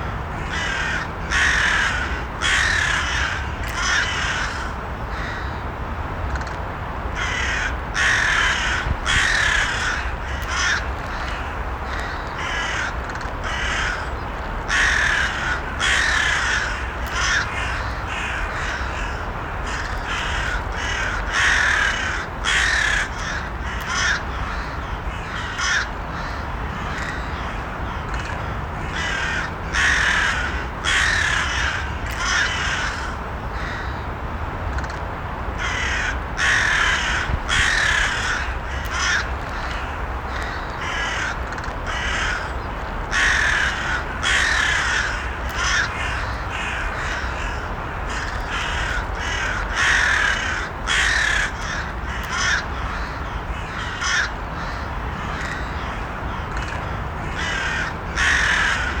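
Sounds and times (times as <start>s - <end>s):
low background noise: 0.0s - 59.0s
crows cawing: 0.4s - 5.6s, 7.2s - 34.0s, 35.6s - 59.0s.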